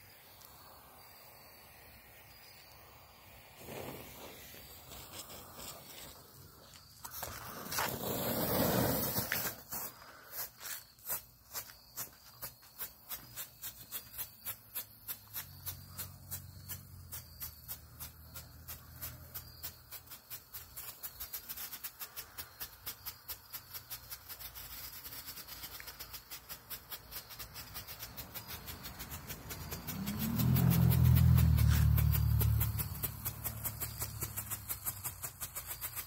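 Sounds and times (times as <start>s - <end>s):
strobe fireworks popping: 2.1s - 36.0s.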